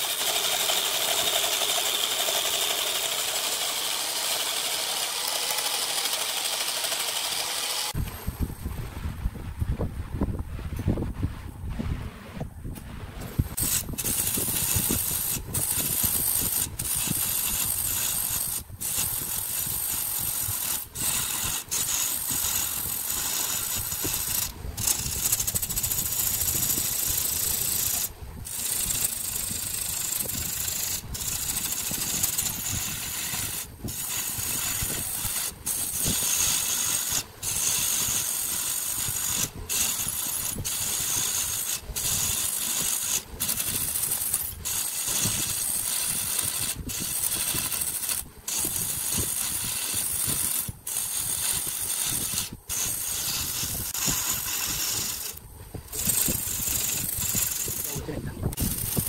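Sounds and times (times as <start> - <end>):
wood lathe rumble: 0.0 - 8.0, 13.6 - 59.0
gouge cutting wood hiss: 0.0 - 8.4, 13.3 - 59.0.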